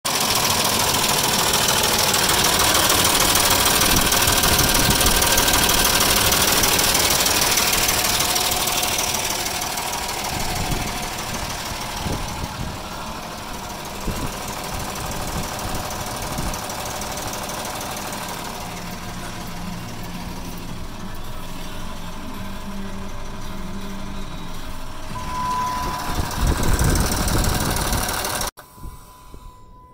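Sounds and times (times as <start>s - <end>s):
engine running with rapid knock: 0.1s - 28.5s.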